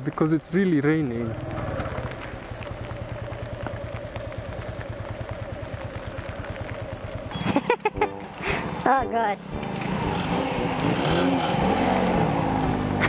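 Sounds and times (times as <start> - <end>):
motorcycle engine idling: 0.6 - 13.0.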